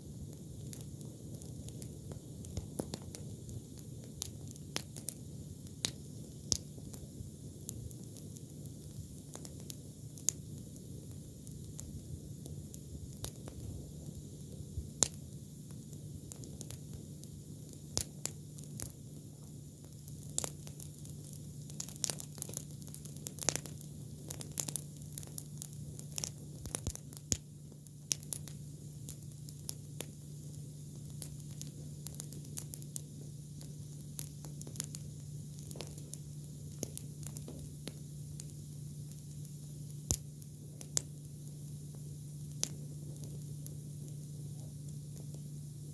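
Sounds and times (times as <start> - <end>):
campfire crackling and popping: 0.0 - 45.9
steady low hum: 0.0 - 45.9.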